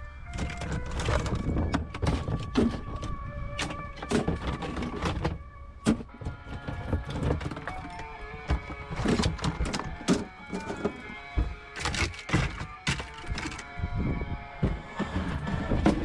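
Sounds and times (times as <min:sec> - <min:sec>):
running machinery: 0:00.0 - 0:16.0
metal clanks and knocks: 0:00.3 - 0:16.0.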